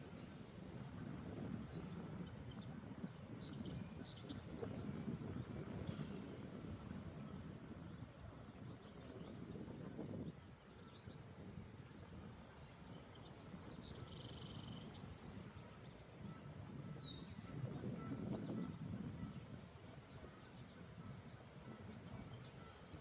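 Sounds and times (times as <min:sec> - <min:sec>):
wind buffeting microphone: 0:00.0 - 0:12.4, 0:14.0 - 0:23.0.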